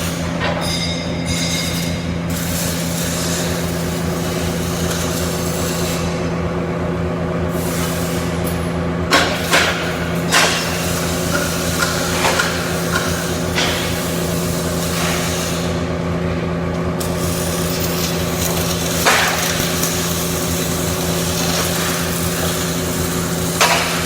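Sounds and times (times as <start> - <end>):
electrical hum: 0.0 - 24.0
welding crackling hiss: 1.6 - 6.2, 7.5 - 8.5, 9.2 - 15.9, 17.0 - 24.0.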